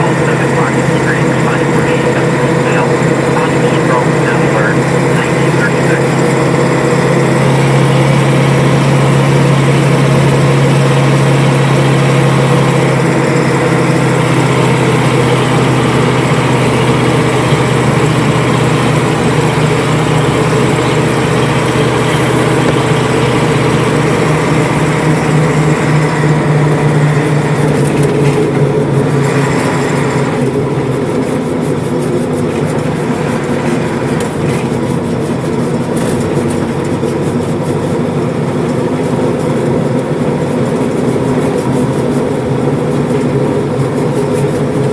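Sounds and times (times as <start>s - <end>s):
road noise: 0.0s - 44.9s
truck engine running: 0.0s - 44.9s.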